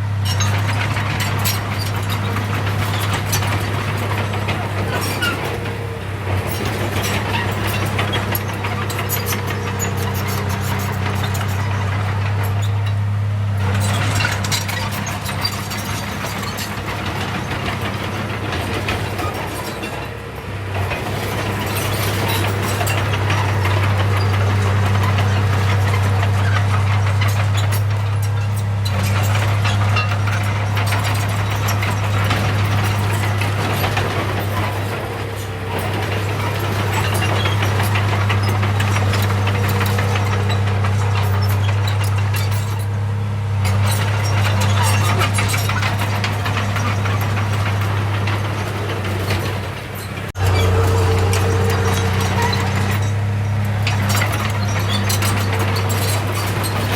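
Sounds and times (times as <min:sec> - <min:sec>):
heavy machine diesel engine: 0:00.0 - 0:56.9
clattering rattling noise: 0:00.2 - 0:13.0, 0:13.6 - 0:43.0, 0:43.6 - 0:56.9.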